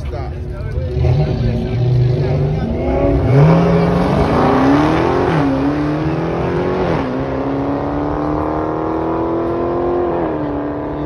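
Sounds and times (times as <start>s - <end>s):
car engine accelerating hard: 0.6s - 11.0s.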